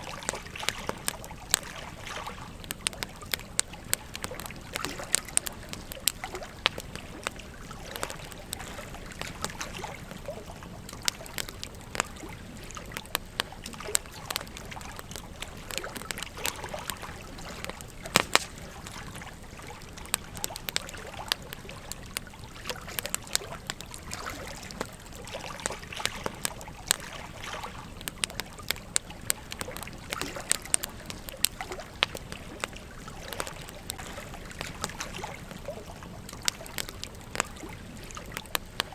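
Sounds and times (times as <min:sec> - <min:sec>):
campfire crackling and popping: 0:00.0 - 0:38.9
gentle stream babbling: 0:00.0 - 0:38.9.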